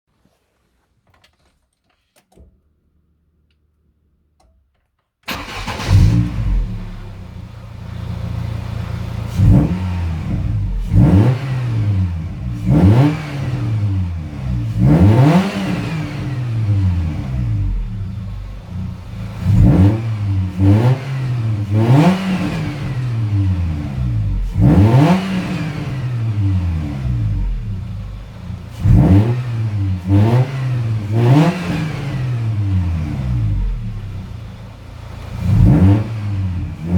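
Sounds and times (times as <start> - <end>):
car engine idling and revving: 5.3 - 36.9.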